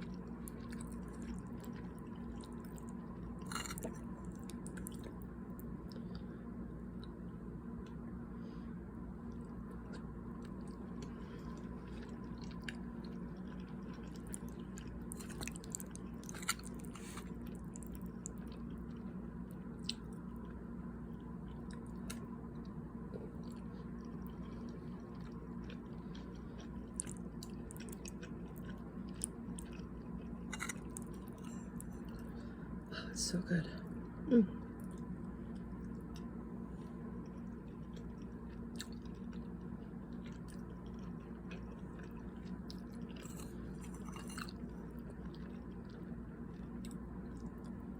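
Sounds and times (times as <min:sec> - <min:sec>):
person chewing food: 0:00.0 - 0:32.8, 0:34.0 - 0:47.9
low hum: 0:00.0 - 0:47.9.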